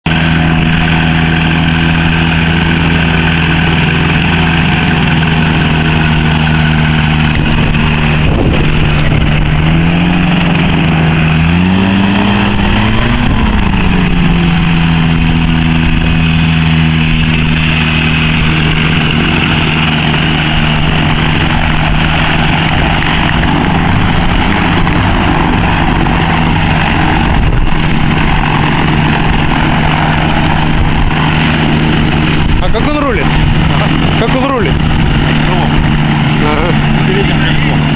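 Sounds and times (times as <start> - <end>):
microlight engine idling and revving: 0.0 - 37.9.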